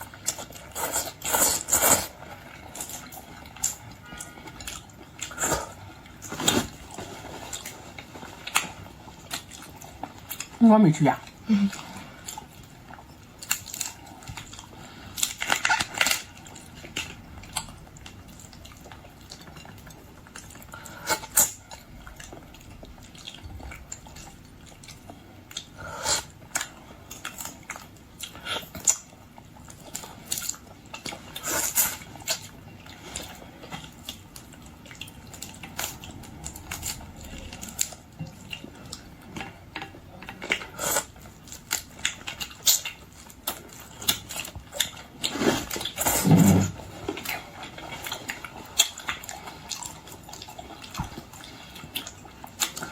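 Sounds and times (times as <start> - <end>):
chewing: 0.0 - 10.6, 11.2 - 52.9.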